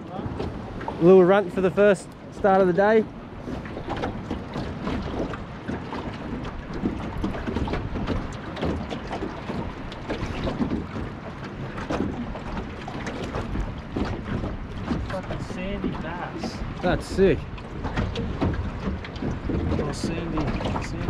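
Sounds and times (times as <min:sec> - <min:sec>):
water slapping against metal hull: 0:00.0 - 0:21.0
wind buffeting microphone: 0:00.0 - 0:21.0.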